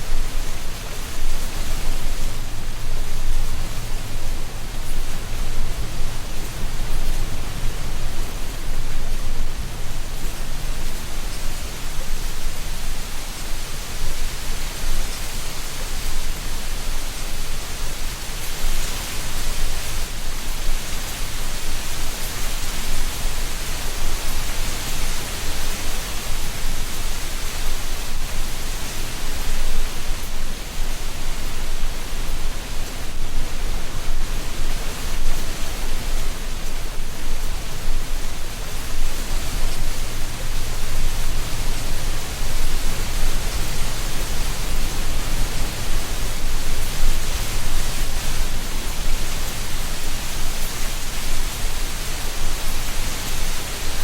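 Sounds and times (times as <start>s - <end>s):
wind rustling dry leaves: 0.0s - 54.0s.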